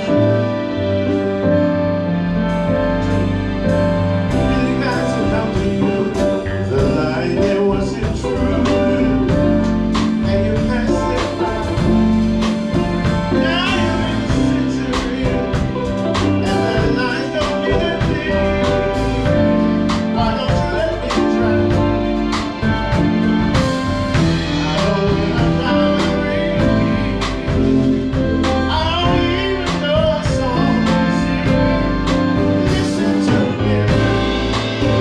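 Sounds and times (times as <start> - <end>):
sustained chords and bass: 0.0 - 35.0
drum kit hits: 2.4 - 35.0
person singing: 4.2 - 35.0.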